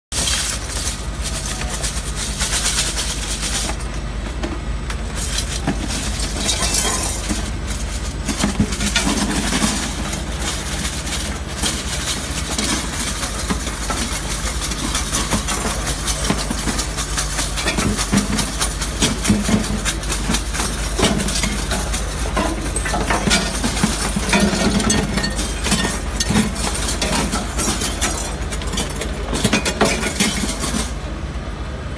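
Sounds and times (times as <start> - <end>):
scrap metal clattering on belt: 0.2 - 3.9, 5.2 - 31.0
low motor hum: 0.2 - 31.9.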